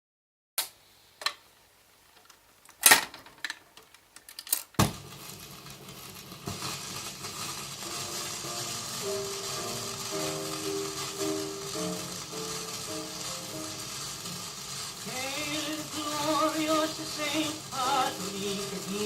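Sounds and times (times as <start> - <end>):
steady hiss: 0.6 - 19.0.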